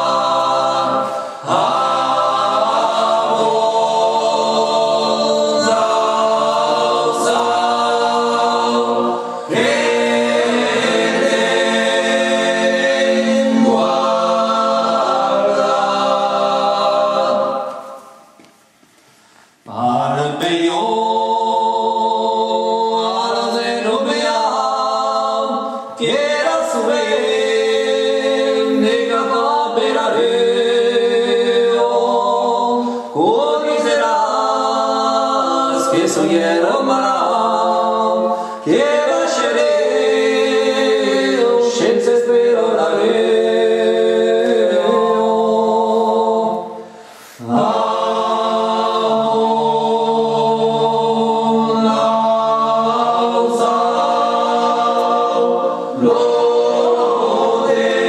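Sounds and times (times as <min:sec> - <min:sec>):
men singing in harmony: 0:00.0 - 0:17.9, 0:19.7 - 0:58.0.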